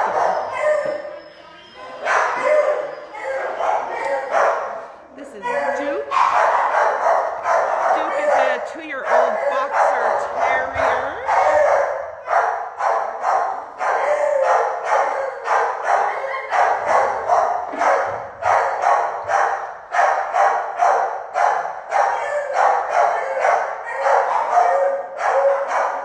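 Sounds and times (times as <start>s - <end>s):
dogs barking: 0.0s - 1.2s, 1.8s - 26.0s.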